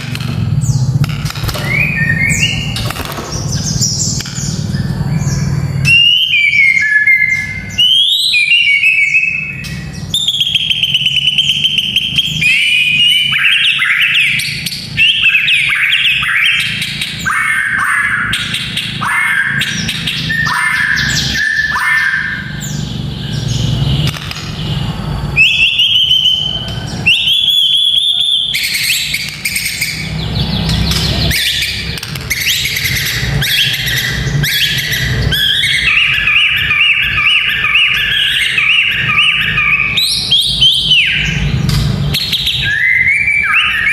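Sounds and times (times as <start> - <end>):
dry bird chattering: 0.0 - 43.9
bird singing whistled phrases: 1.6 - 2.8, 4.7 - 23.5, 25.4 - 30.1, 31.1 - 41.5, 42.1 - 43.9.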